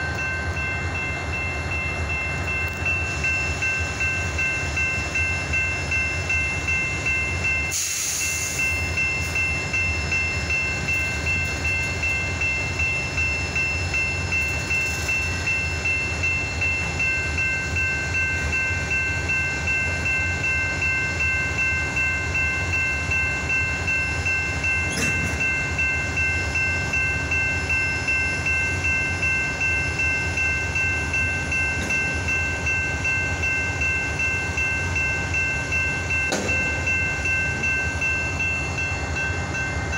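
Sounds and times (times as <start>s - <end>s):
diesel locomotive rumble: 0.0s - 39.9s.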